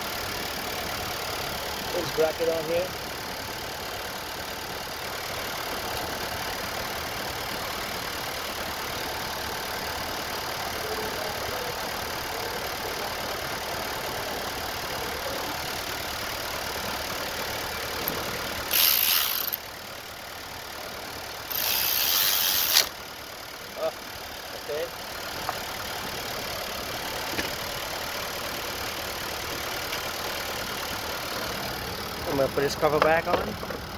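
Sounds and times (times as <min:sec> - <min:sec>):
car engine idling: 0:00.0 - 0:22.0, 0:22.6 - 0:33.9.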